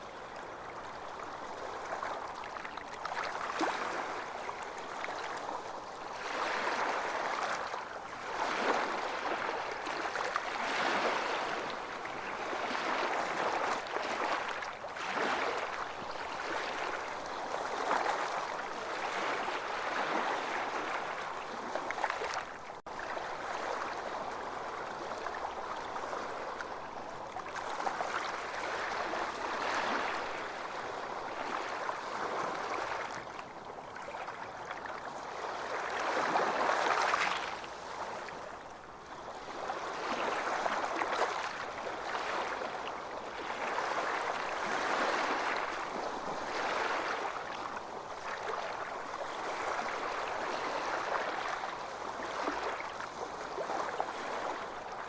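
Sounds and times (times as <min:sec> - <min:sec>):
ocean waves on a beach: 0:00.0 - 0:55.0.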